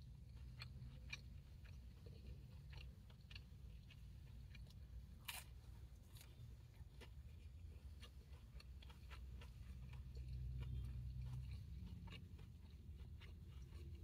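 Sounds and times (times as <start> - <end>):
chewing and mouth clicks: 0.0 - 14.0.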